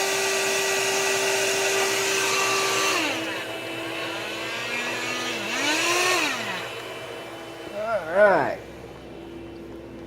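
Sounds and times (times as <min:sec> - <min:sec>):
blower fans humming: 0:00.0 - 0:10.0.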